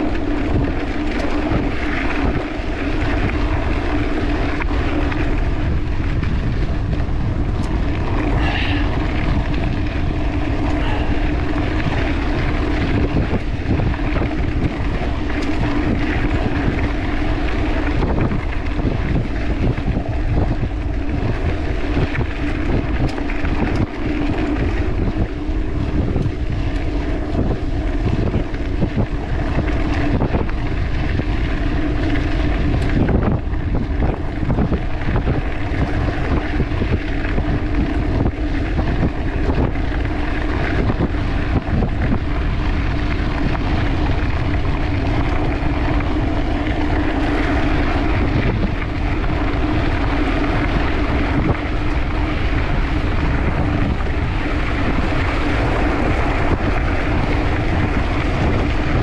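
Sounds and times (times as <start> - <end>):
bike rolling over rough trail: 0.0 - 59.0
low hum: 0.0 - 59.0
wind buffeting microphone: 0.0 - 59.0.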